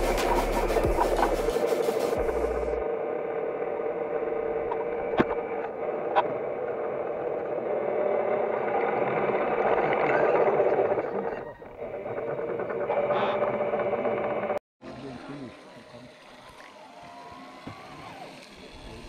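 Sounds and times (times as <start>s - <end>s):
small motor humming: 0.0s - 19.0s.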